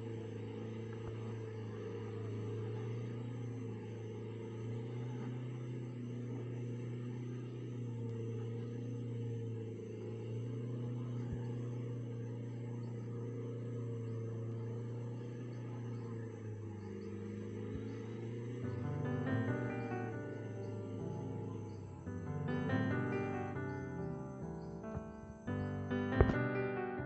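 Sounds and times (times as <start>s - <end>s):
car engine low drone: 0.0s - 27.0s.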